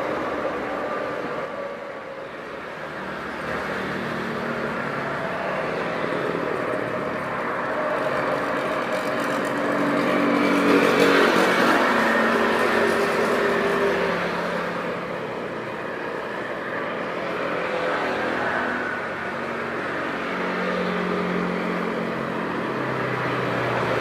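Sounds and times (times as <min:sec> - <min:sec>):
loud engine noise: 0:00.0 - 0:24.0.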